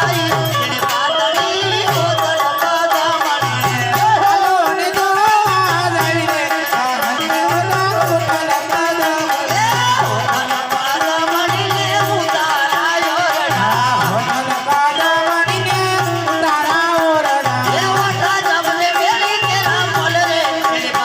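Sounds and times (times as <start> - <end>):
percussion: 0.0 - 21.0
person singing with ornamented voice: 0.0 - 21.0.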